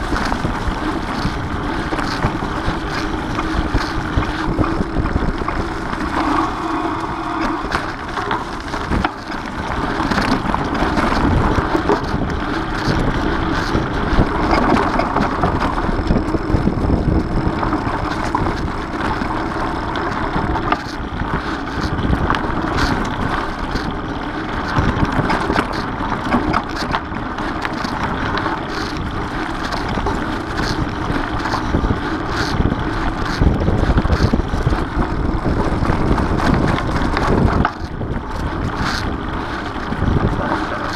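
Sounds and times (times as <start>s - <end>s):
bike clicks and rattles: 0.0s - 40.9s
bike tyres on leafy dirt: 0.0s - 40.9s
wind on microphone: 0.0s - 40.9s.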